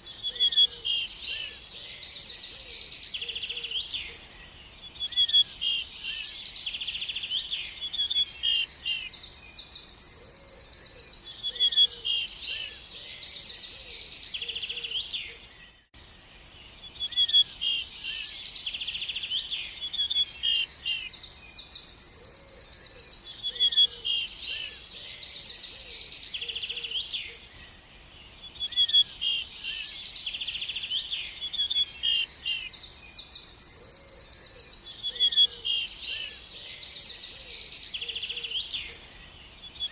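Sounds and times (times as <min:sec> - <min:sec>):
birds chirping and trilling: 0:00.0 - 0:39.9
faint lower bird calls: 0:00.0 - 0:39.9.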